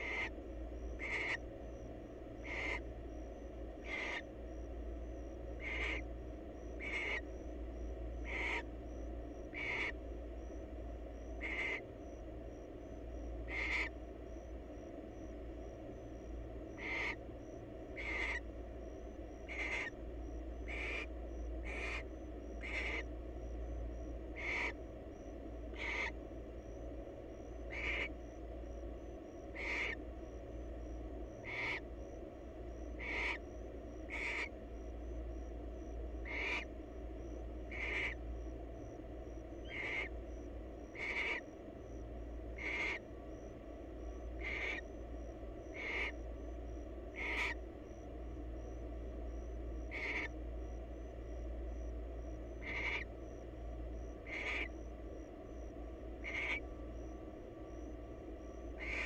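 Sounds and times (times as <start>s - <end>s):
barn owl calling in harsh bursts: 0.0s - 10.6s, 11.2s - 14.1s, 16.6s - 28.4s, 29.0s - 48.0s, 48.6s - 53.4s, 54.0s - 57.1s, 58.5s - 59.0s
steady low hum: 0.0s - 59.0s.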